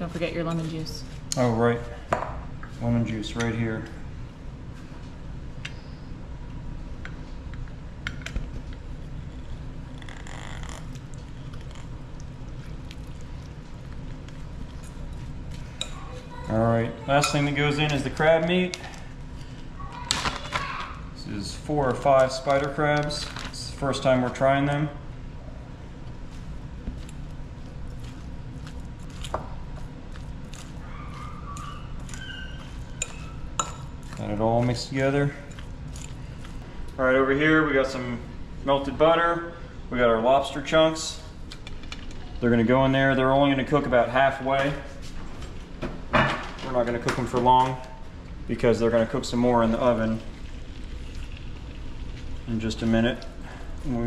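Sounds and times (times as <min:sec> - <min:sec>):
low kitchen room hum: 0:00.0 - 0:54.0.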